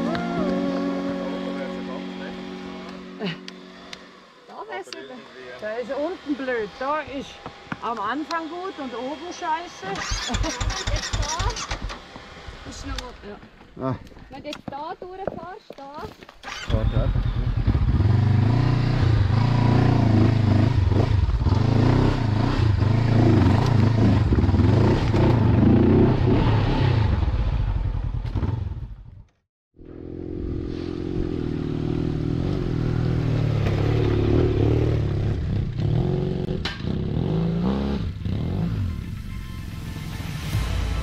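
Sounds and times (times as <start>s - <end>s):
motorcycle engine revving: 0.0s - 13.6s, 16.4s - 41.0s.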